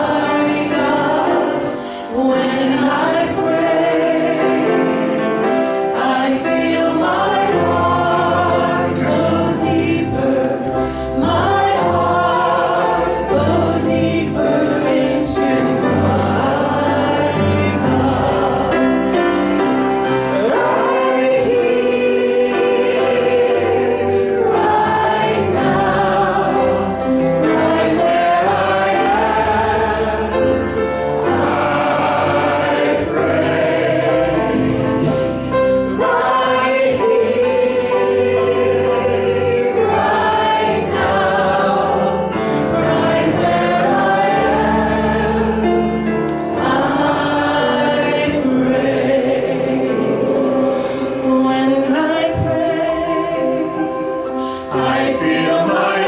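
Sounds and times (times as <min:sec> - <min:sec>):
choir singing gospel song: 0:00.0 - 0:56.0
instrumental accompaniment: 0:00.0 - 0:56.0.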